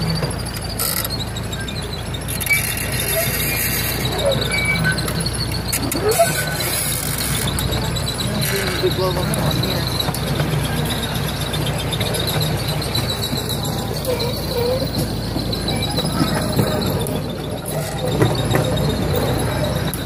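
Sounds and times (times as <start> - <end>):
miniature train rumbling: 0.0 - 20.0.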